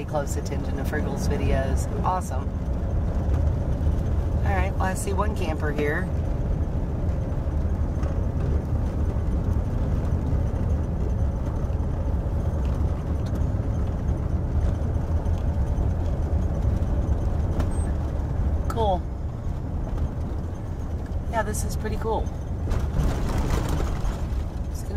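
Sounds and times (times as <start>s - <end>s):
van engine and road rumble: 0.0s - 24.9s.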